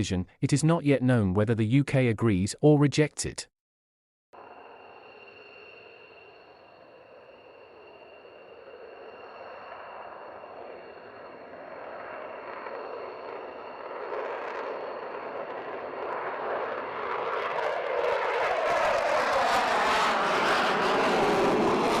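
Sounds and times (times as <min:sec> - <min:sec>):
jet aircraft engine: 0:04.4 - 0:22.0.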